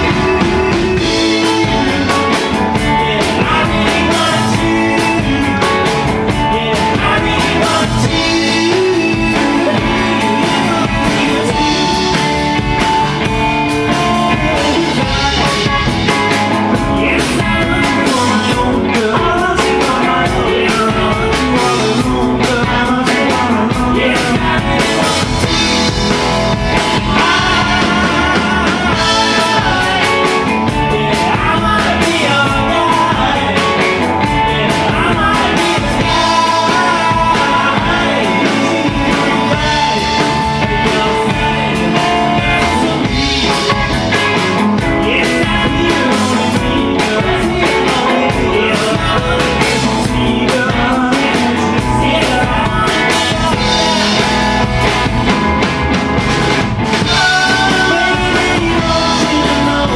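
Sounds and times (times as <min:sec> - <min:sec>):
person singing lead vocal: 0:00.0 - 0:55.7, 0:56.5 - 0:59.9
electric guitar: 0:00.0 - 0:59.9
steady drum beat: 0:00.0 - 0:59.9.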